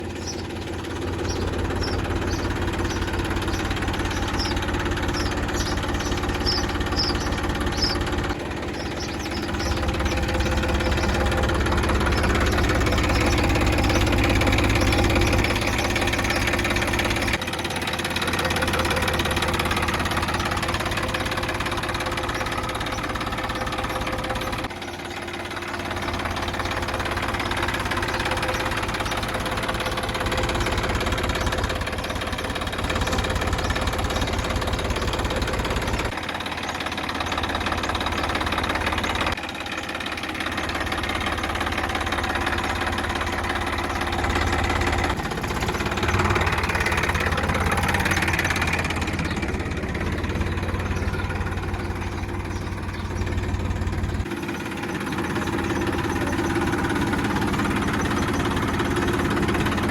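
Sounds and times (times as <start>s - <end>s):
engine rumbling: 0.0s - 59.9s.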